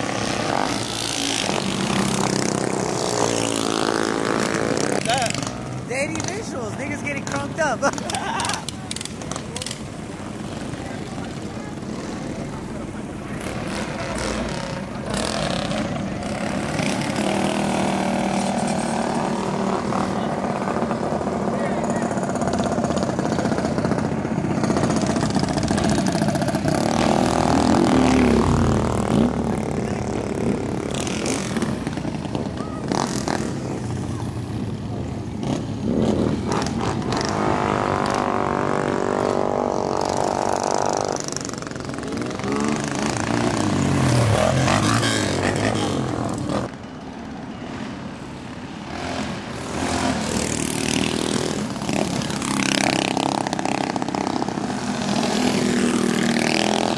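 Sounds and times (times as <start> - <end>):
mini bike engines revving: 0.0 - 56.9.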